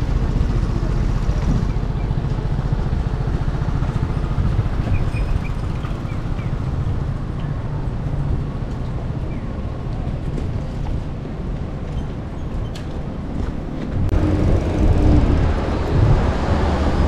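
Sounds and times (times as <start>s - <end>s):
heavy low street rumble: 0.0s - 17.0s.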